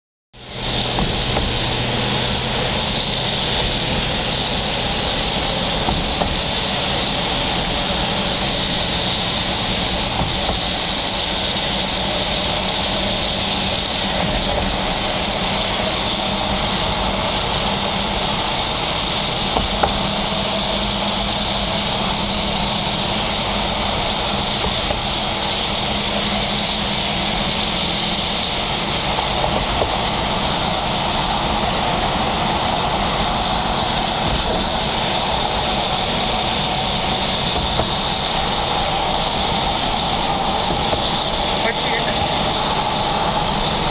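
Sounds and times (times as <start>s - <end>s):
engine hum: 0.4s - 43.9s
tyres rushing on road: 0.4s - 43.9s.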